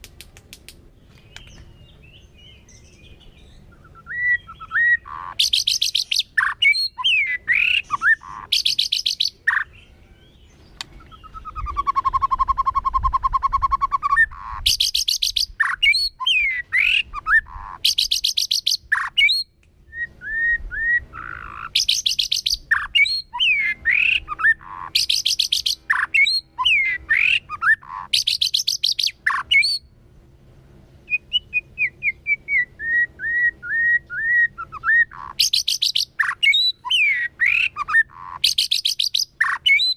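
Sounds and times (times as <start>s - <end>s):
songbird singing trills and whistles: 1.0s - 29.9s, 31.0s - 39.9s.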